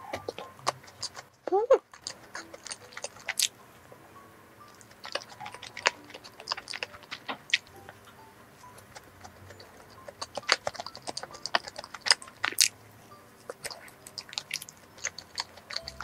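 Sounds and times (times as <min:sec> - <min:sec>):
wet chewing smacks: 0:00.0 - 0:03.6, 0:04.6 - 0:12.8, 0:13.4 - 0:16.0.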